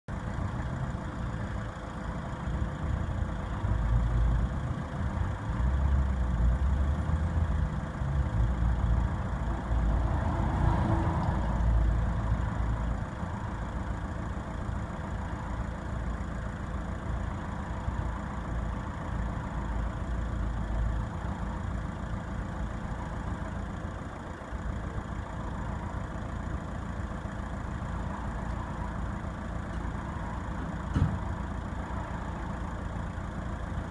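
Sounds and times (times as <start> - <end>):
engine idling rumble: 0.1 - 33.9.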